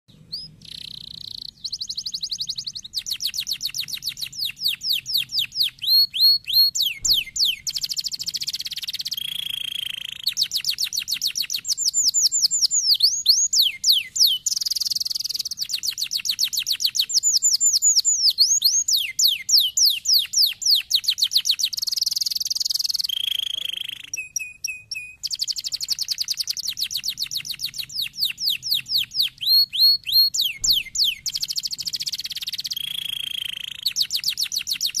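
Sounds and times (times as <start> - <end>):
canary singing trills: 0.1 - 35.0.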